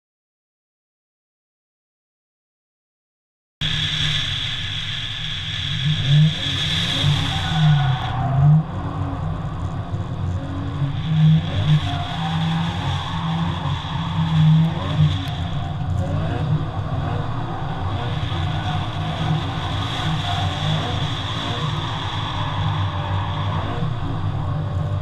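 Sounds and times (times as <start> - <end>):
car engine revving: 3.6 - 25.0.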